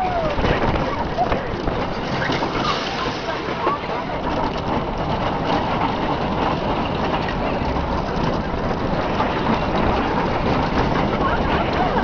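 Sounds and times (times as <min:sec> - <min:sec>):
roller coaster wheels rumbling: 0:00.0 - 0:12.0.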